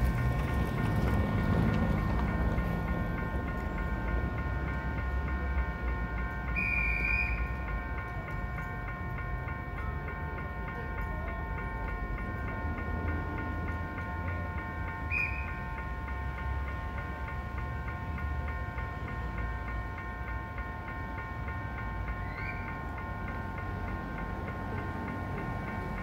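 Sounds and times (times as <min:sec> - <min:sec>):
level crossing warning bells: 0:00.0 - 0:26.0
passing train rumble: 0:00.0 - 0:26.0.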